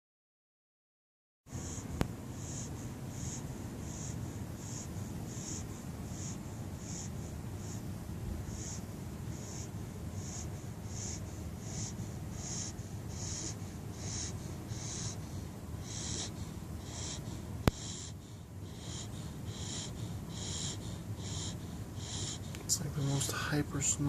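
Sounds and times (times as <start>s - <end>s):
puppy snoring: 1.5s - 24.0s.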